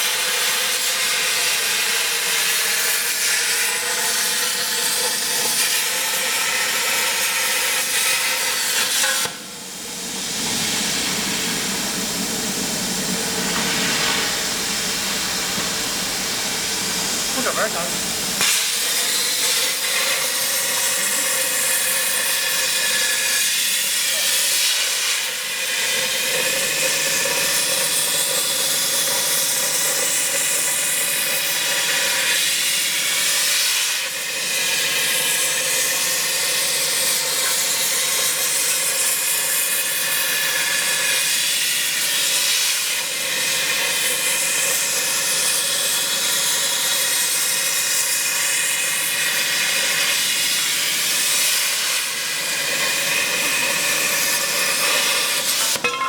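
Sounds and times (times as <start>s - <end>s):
cutting torch hiss: 0.0s - 55.9s.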